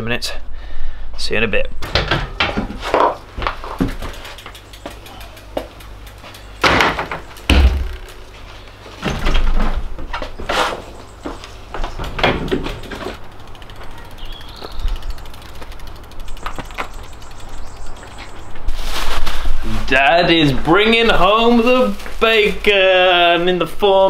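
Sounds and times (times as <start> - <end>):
bike knocking and rattling: 1.8 - 22.7.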